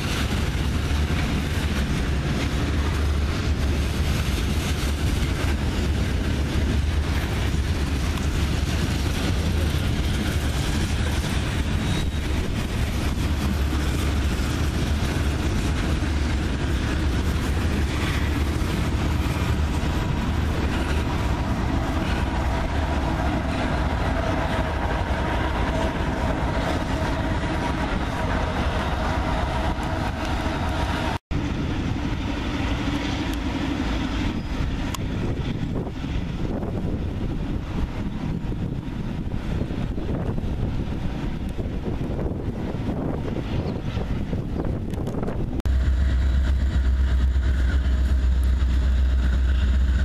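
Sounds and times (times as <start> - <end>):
diesel locomotive engine running: 0.0 - 50.0
train wheels rumbling on rails: 0.0 - 50.0.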